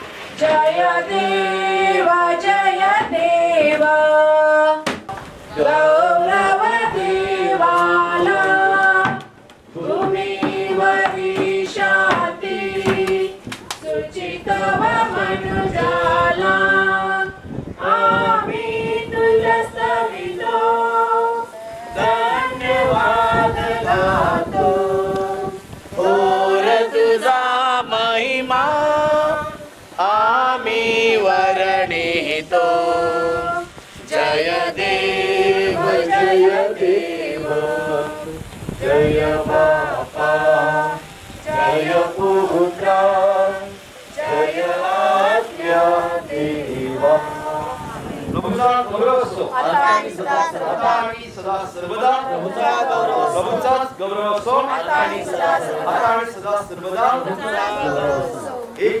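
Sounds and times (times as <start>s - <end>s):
group singing a hymn unaccompanied: 0.0s - 59.0s.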